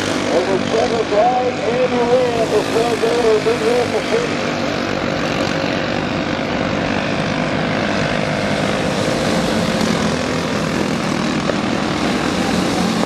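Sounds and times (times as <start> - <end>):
kart engines buzzing: 0.0 - 13.0.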